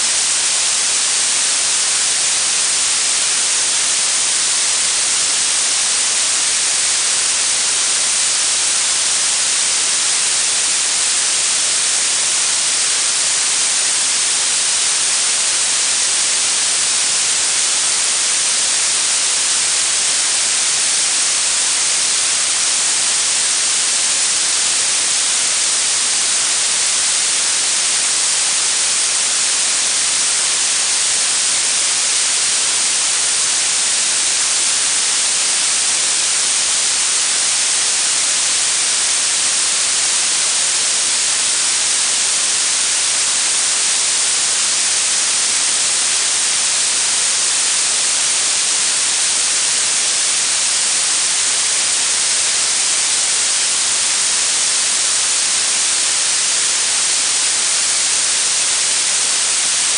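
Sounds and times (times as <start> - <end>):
steady synthetic hiss: 0.0 - 59.9.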